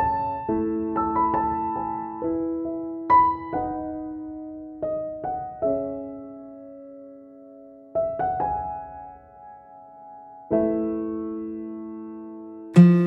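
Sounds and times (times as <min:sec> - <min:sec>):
piano notes and chords: 0:00.0 - 0:13.0.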